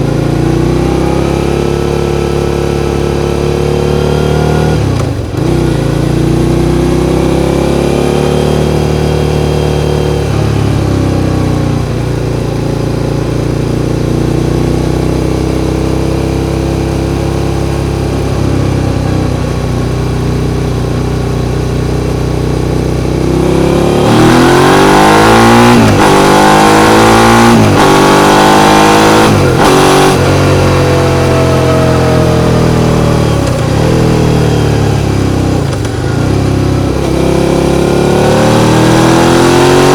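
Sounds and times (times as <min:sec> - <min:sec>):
motorcycle engine shifting up gears: 0:00.0 - 0:39.9.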